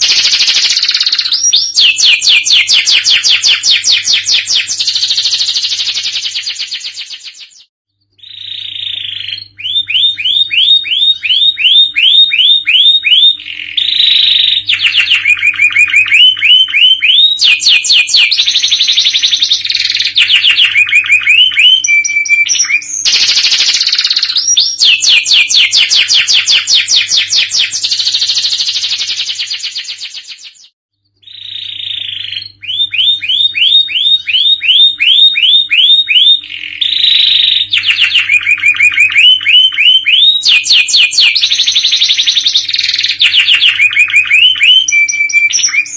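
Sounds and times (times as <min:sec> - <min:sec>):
canary singing: 0:00.0 - 0:45.9.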